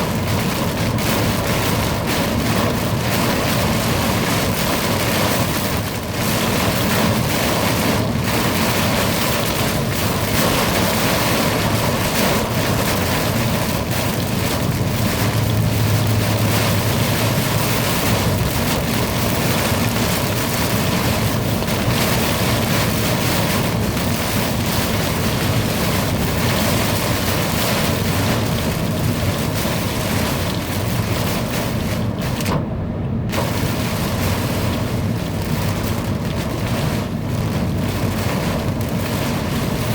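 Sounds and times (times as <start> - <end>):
heavy rain downpour: 0.0 - 39.9
thunder rumble: 6.2 - 39.9.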